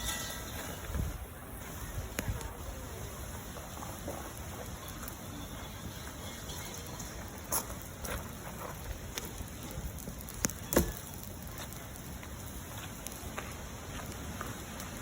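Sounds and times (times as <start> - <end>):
bonfire crackling: 0.0 - 15.0
fire pops and cracks: 0.0 - 15.0.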